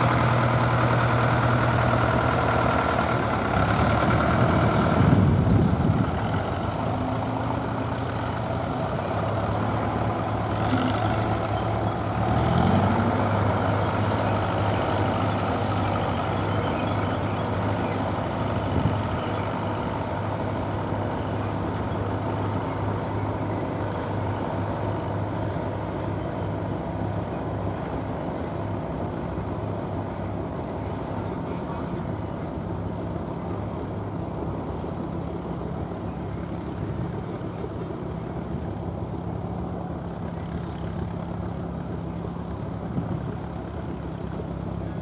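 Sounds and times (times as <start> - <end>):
tractor engine under load: 0.0 - 45.0.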